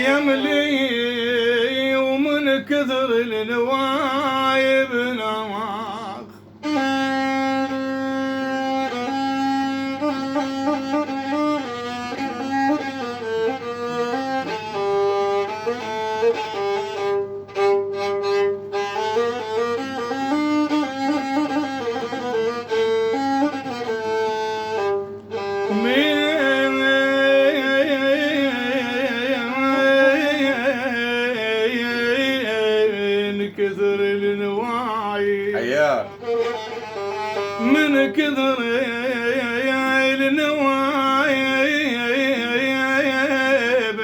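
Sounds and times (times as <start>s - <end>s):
violin playing ornamented melody: 0.0s - 2.4s, 3.4s - 44.0s.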